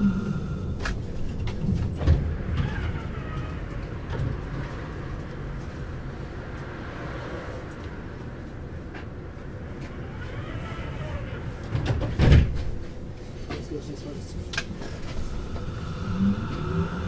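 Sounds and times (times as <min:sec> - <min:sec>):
tram low rumble: 0:00.0 - 0:17.0.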